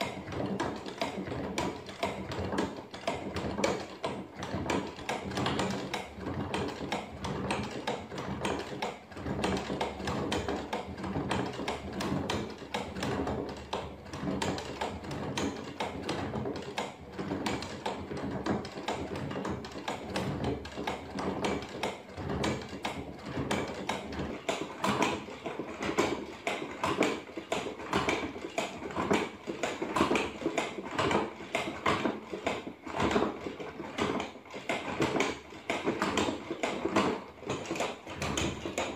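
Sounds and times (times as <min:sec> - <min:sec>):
wooden cams clacking on cardboard: 0:00.0 - 0:38.9.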